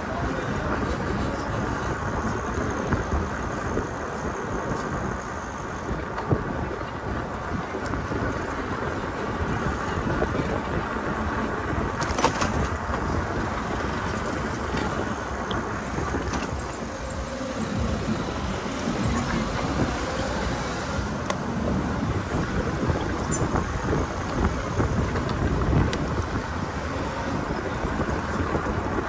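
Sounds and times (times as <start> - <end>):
bicycle being ridden: 0.0 - 29.0
wind buffeting microphone: 0.0 - 29.0.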